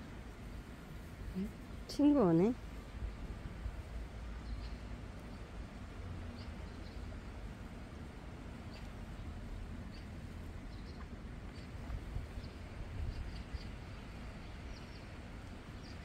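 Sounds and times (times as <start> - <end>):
wind rumble on microphone: 0.0 - 16.0
small birds chirping: 1.3 - 16.0.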